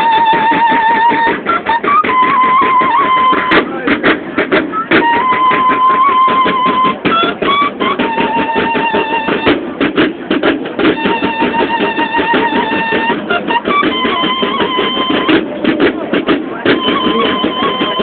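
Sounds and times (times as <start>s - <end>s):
bugles playing held notes: 0.0s - 18.0s
fast snare drum rhythm: 0.0s - 18.0s.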